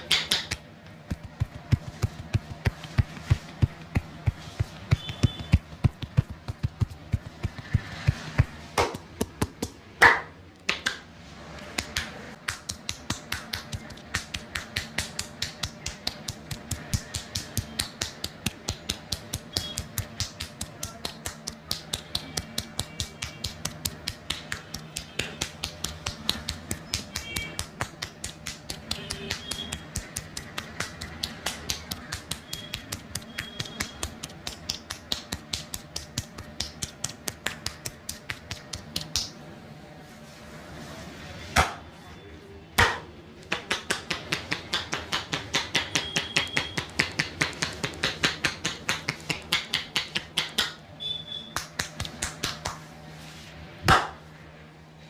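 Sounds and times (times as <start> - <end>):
hands slapping on head: 0.0 - 9.8, 11.8 - 39.4, 42.8 - 50.8, 51.6 - 52.9.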